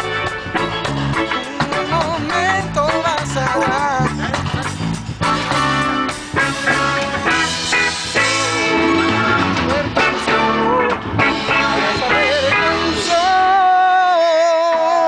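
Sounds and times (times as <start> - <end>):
live reggae band: 0.0 - 15.0.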